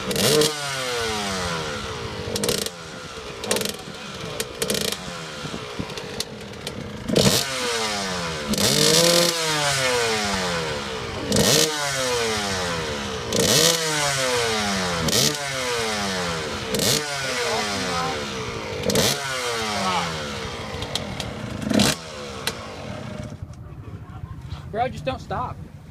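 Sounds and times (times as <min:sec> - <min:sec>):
motocross engine revving: 0:00.0 - 0:23.6.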